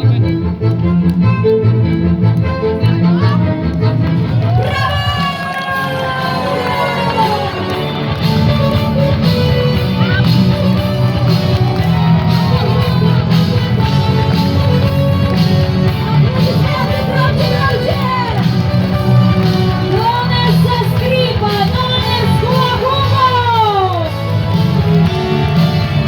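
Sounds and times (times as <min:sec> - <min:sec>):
loud music: 0:00.0 - 0:26.0.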